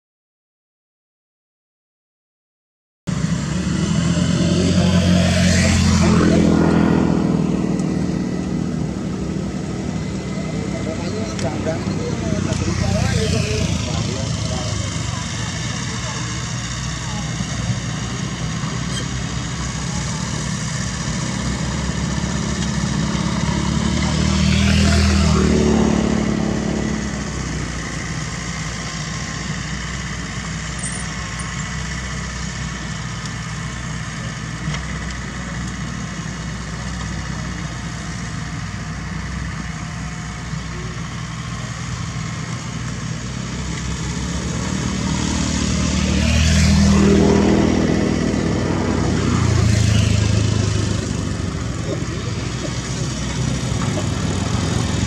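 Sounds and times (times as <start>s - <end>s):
excavator diesel engines running: 3.1s - 55.0s.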